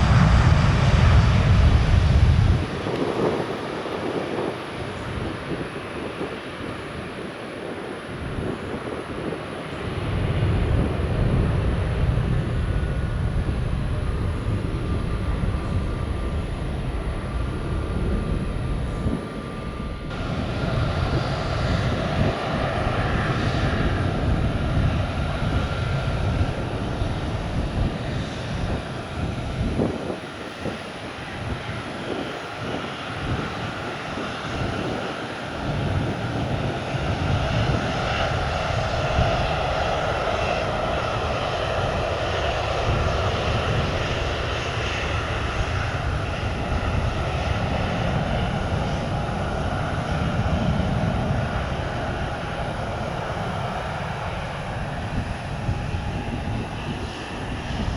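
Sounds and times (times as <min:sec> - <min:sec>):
jet engines rumbling: 0:00.0 - 0:57.9.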